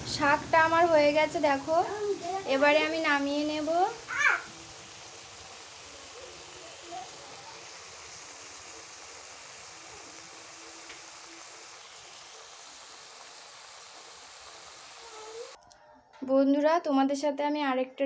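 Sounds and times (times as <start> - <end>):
greens sizzling in a pan: 0.0 - 15.6.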